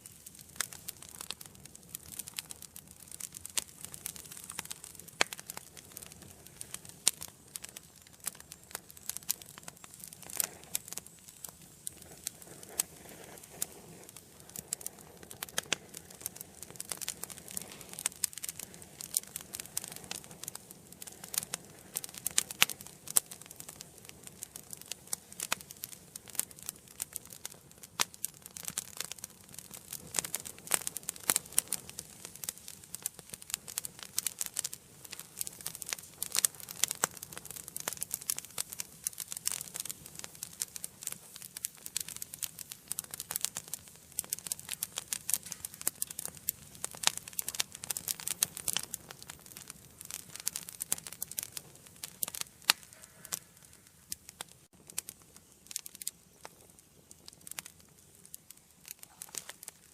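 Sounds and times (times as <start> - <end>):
flames hissing: 0.0 - 59.9
wood fire crackling and popping: 0.0 - 59.9.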